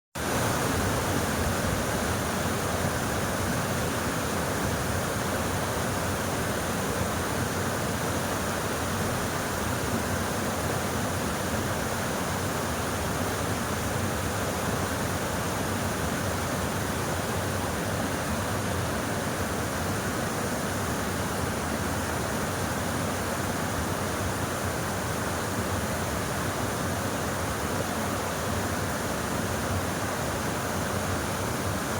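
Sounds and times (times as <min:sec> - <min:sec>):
stream rushing over rocks: 0:00.2 - 0:31.9.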